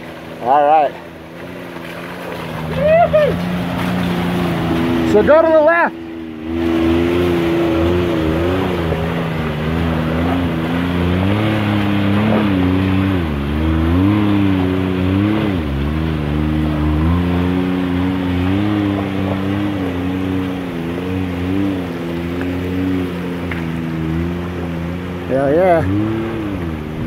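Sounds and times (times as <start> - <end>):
engine running at low revs: 0.0 - 27.0
tyres splashing through water: 0.0 - 27.0.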